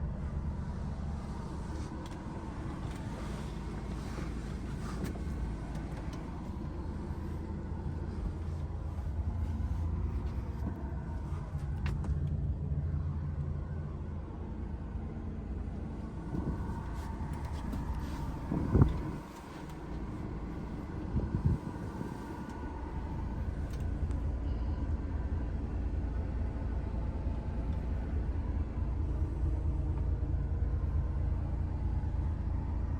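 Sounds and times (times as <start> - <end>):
truck diesel engine rumble: 0.0 - 32.9.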